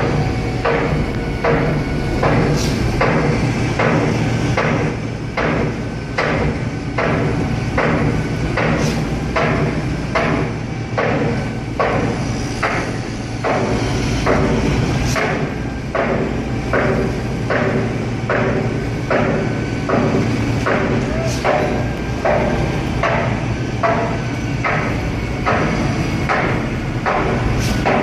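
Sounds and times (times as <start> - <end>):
concrete pump knocking: 0.0 - 28.0
diesel engine drone: 0.0 - 28.0.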